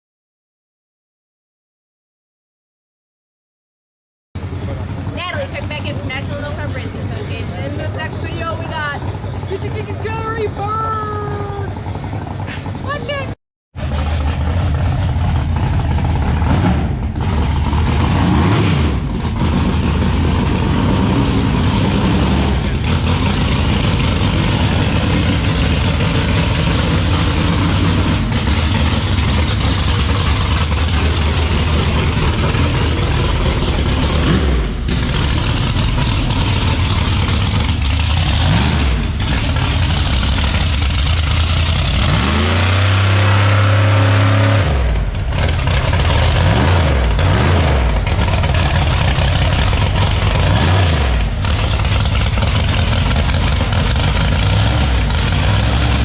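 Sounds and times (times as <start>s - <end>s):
drag racing car engines: 4.4s - 56.0s
engine revving hard: 4.4s - 56.0s.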